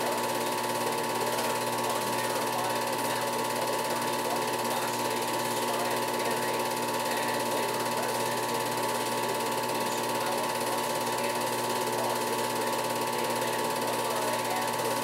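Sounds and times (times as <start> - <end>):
film projector rattling: 0.0 - 15.0.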